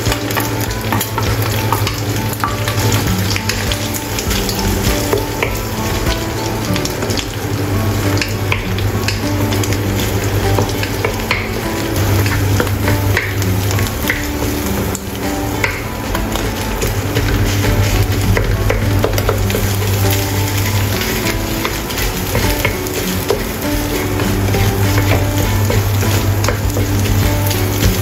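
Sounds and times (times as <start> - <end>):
eggs sizzling in hot oil: 0.0 - 28.0.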